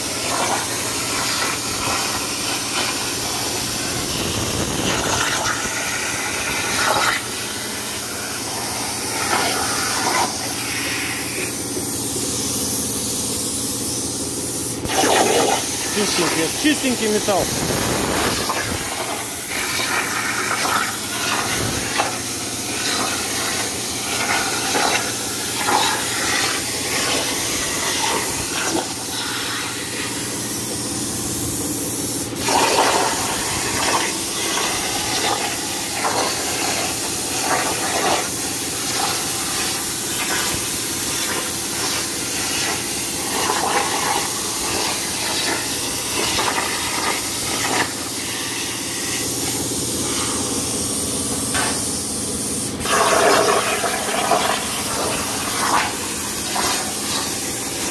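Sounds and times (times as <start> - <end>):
plasma cutter hissing rush: 0.0 - 57.9.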